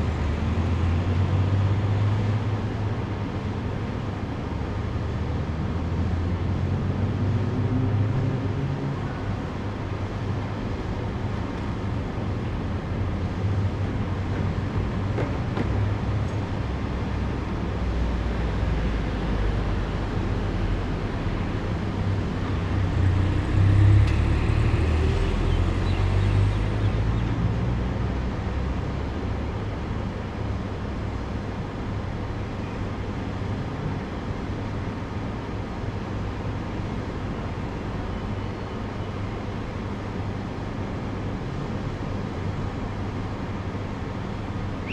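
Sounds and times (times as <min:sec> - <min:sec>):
street traffic rumble: 0:00.0 - 0:44.9.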